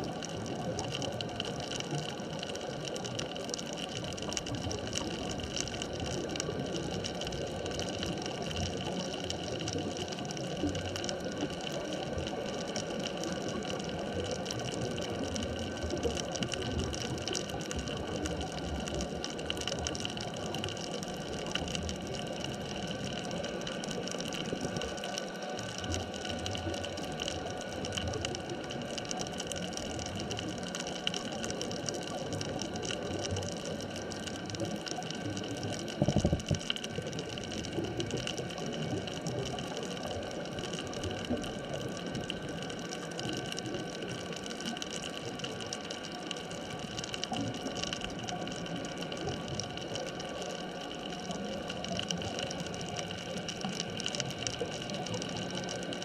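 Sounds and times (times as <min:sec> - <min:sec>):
underwater water noise: 0:00.0 - 0:56.0.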